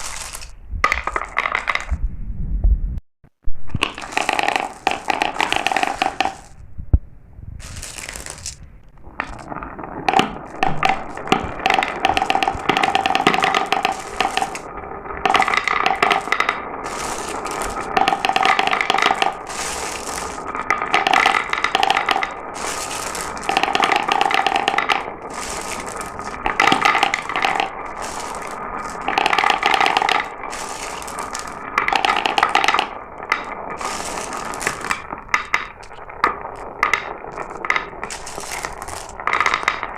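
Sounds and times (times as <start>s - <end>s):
marbles rattling down a track: 0.0s - 2.0s, 3.7s - 6.6s, 7.6s - 39.9s.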